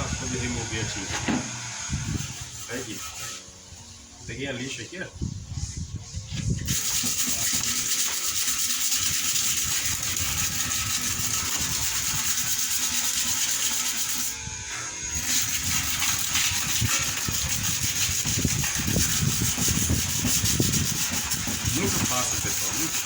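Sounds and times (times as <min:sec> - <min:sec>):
sandpaper rubbing on iron: 0:02.0 - 0:04.8, 0:05.6 - 0:23.0.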